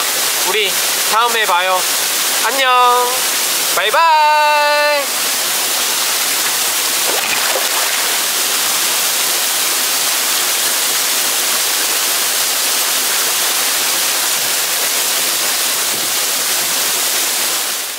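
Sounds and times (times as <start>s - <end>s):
small waterfall into pool: 0.0s - 17.9s.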